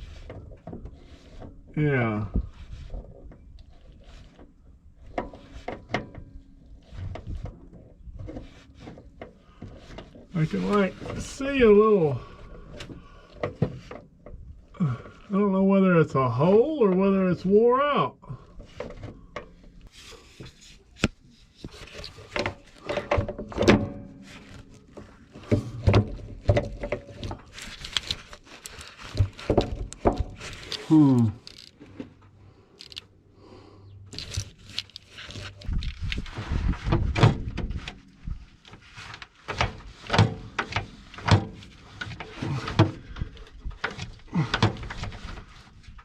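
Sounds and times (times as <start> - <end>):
parts clunking and knocking: 0.0 - 15.3, 18.4 - 33.2, 34.0 - 46.0.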